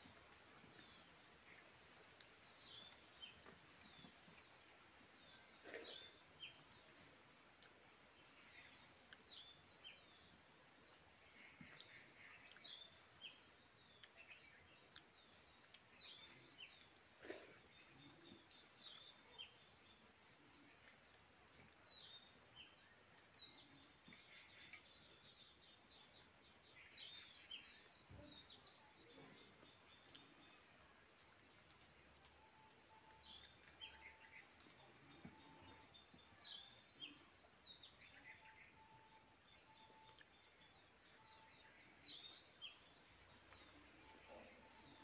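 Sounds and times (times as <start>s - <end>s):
background hiss: 0.0s - 45.0s.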